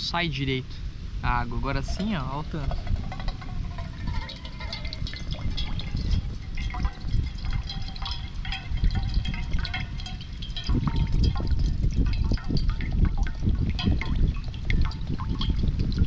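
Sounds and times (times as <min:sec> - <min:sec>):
steady low rumble: 0:01.3 - 0:16.0
water pouring and splashing: 0:01.6 - 0:16.0.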